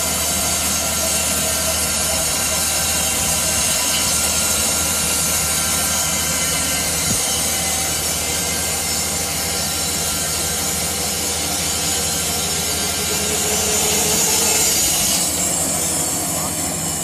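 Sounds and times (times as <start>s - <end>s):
low motor hum: 0.0s - 17.0s
saw cutting wood: 0.0s - 17.0s.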